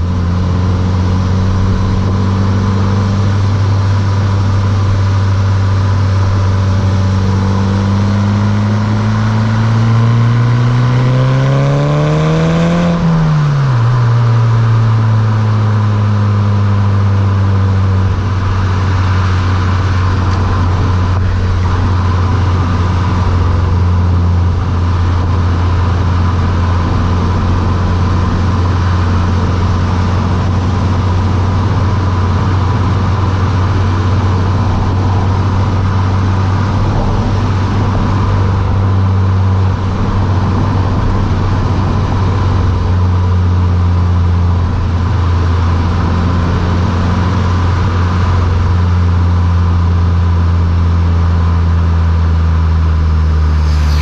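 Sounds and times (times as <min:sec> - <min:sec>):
car engine revving and cruising: 0:00.0 - 0:54.0.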